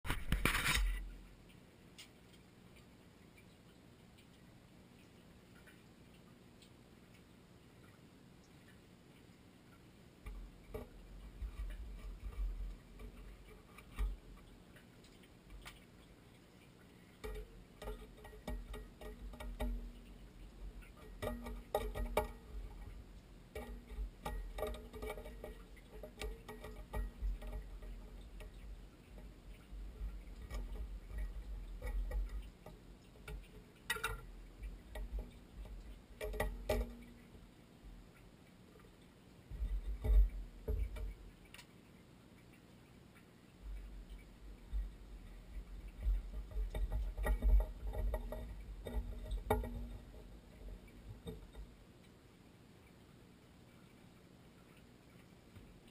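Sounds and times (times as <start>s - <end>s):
light clicks and knocks: 0.1s - 52.2s.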